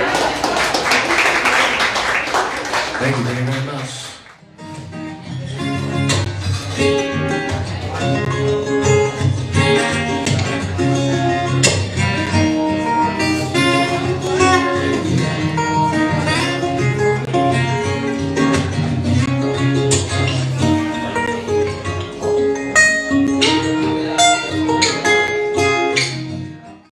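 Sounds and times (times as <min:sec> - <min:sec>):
acoustic guitar plucked notes: 0:04.4 - 0:26.9.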